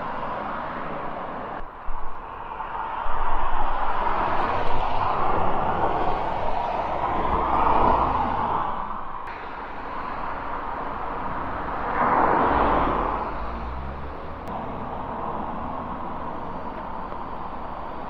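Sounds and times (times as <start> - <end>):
vehicles passing by: 0.0 - 18.0.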